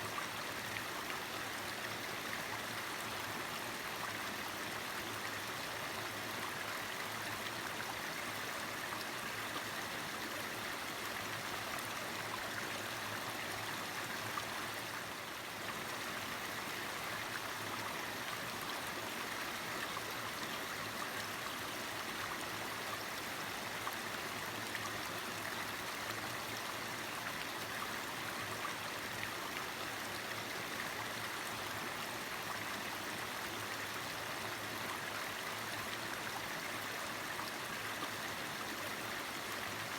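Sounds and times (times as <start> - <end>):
stream water flowing over rocks: 0.0 - 39.9.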